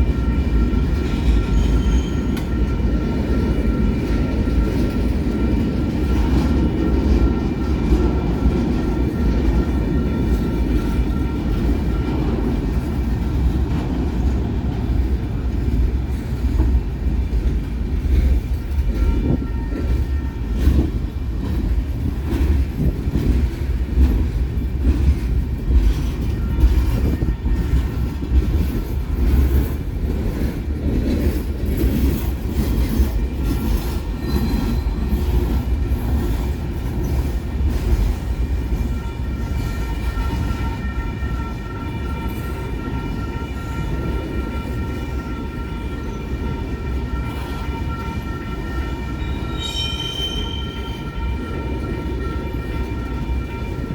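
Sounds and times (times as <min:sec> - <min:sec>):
freight train rumbling: 0:00.0 - 0:53.9.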